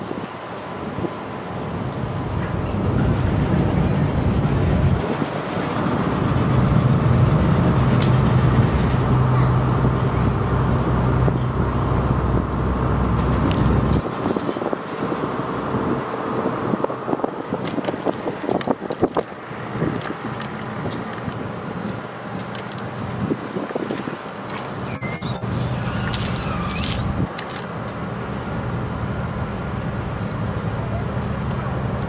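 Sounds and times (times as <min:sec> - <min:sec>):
ship machinery humming: 0:00.0 - 0:32.0
wind: 0:00.0 - 0:32.0.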